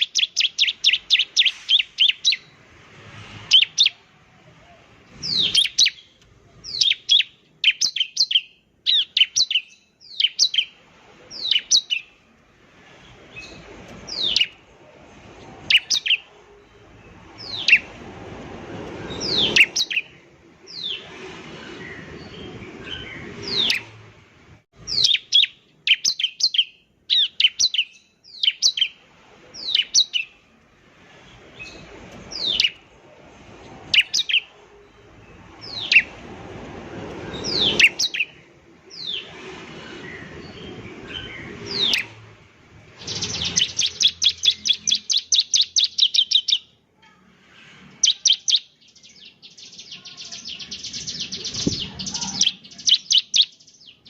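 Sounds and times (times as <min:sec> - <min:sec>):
bird song sharp chirps: 0:00.0 - 0:02.6, 0:03.4 - 0:04.1, 0:05.2 - 0:12.2, 0:12.9 - 0:14.6, 0:15.6 - 0:18.0, 0:19.1 - 0:24.1, 0:24.8 - 0:29.0, 0:29.6 - 0:30.4, 0:31.1 - 0:32.8, 0:33.6 - 0:36.2, 0:37.0 - 0:46.8, 0:47.8 - 0:54.0.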